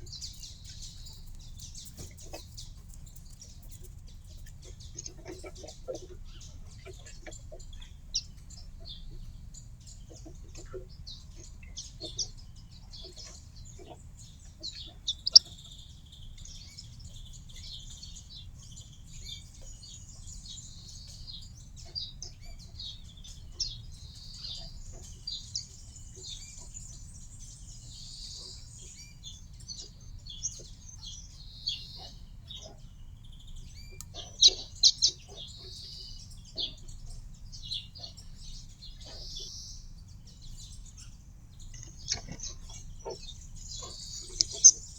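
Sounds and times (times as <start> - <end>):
birds chirping and twittering: 0.0 - 44.9.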